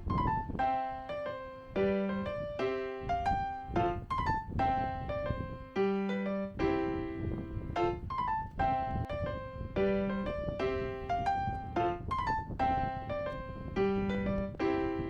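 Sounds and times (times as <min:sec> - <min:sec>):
piano playing repeating phrase: 0:00.0 - 0:15.0.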